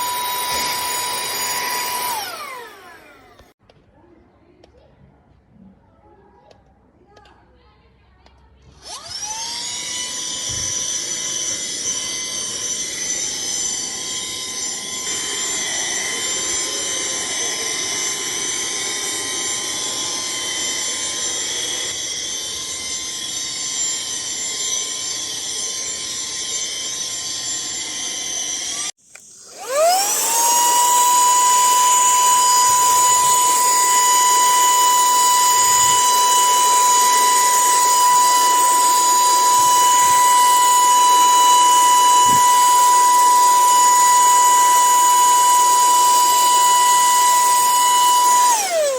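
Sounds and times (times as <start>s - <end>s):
handheld vacuum motor whining: 0.0s - 3.6s, 8.7s - 48.9s.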